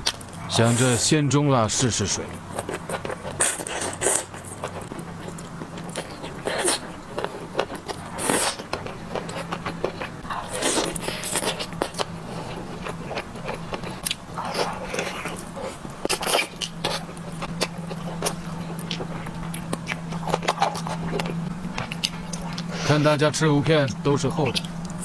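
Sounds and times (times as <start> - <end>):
meat bitten and chewed: 2.4 - 22.7.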